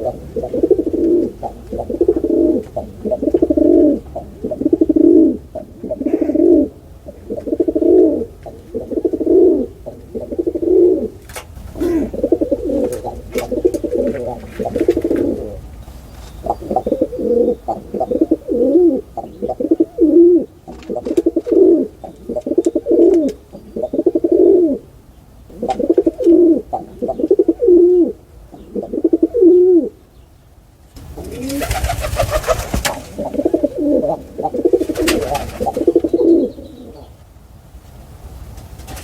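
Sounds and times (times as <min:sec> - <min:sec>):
pigeons cooing: 0:00.0 - 0:30.1, 0:31.0 - 0:37.2.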